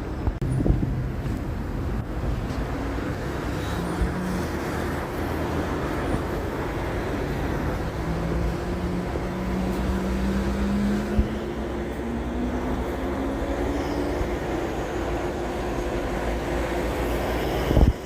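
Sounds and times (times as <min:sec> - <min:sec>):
vehicles driving past: 0:00.0 - 0:18.0.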